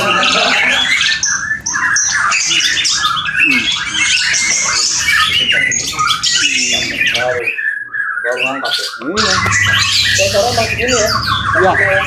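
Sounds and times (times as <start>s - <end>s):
bird singing varied high notes: 0.0s - 12.0s.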